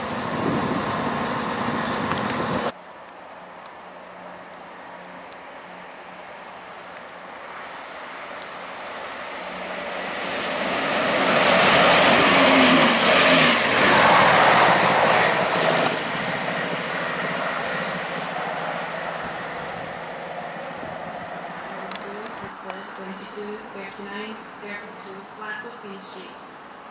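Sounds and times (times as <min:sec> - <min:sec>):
diesel train running past: 0:00.0 - 0:02.8, 0:03.4 - 0:26.9.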